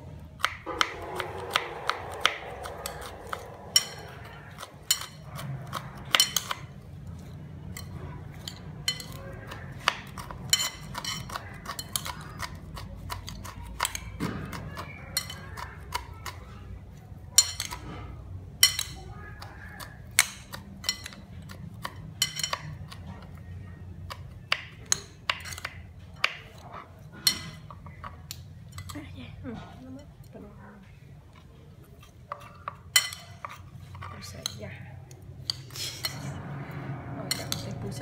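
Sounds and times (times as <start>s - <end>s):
utensils clinking against dishes: 0.4s - 23.5s, 24.1s - 30.4s, 31.9s - 38.0s.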